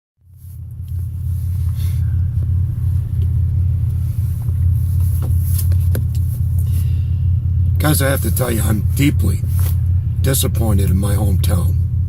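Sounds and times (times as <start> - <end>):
steady low rumble: 0.2 - 12.0.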